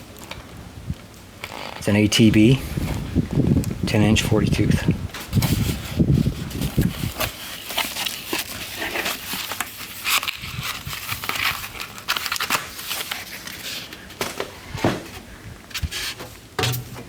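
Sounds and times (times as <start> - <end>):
packaging crinkling and rustling: 0.0 - 1.9, 5.1 - 17.0.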